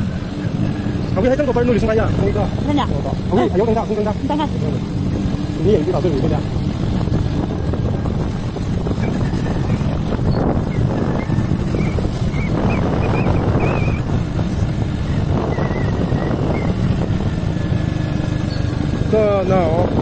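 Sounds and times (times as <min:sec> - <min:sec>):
scooter engine running: 0:00.0 - 0:20.0
wind on microphone: 0:00.0 - 0:20.0.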